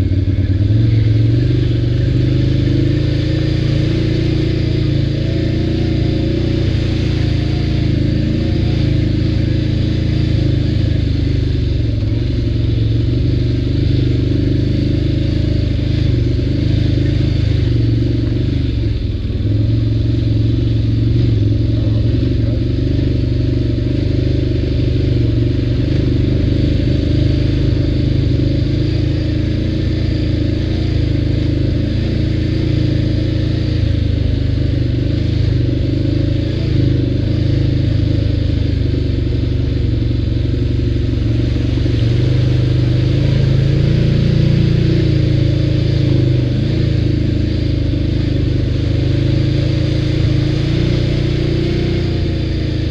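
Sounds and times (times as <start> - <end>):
atv engine droning: 0.0 - 52.9.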